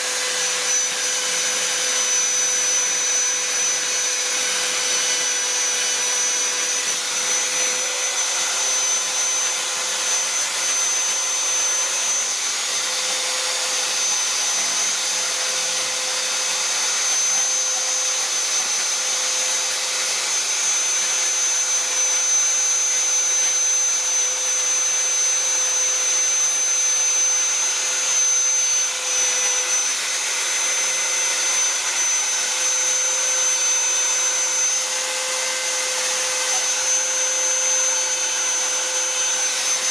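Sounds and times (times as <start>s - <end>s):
die grinder whining into wood: 0.0s - 39.9s.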